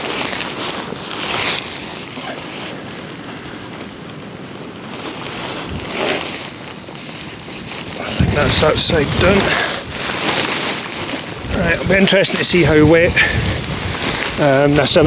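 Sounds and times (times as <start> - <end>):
gusty wind buffeting microphone: 0.0 - 15.0
tent fabric rustling: 0.0 - 15.0.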